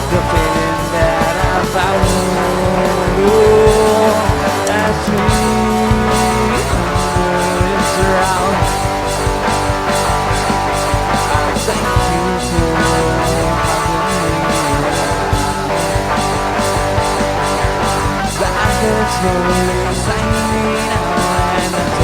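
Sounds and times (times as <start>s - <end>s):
bass guitar: 0.0s - 22.0s
drums steady beat: 0.0s - 22.0s
electric guitar: 0.0s - 22.0s.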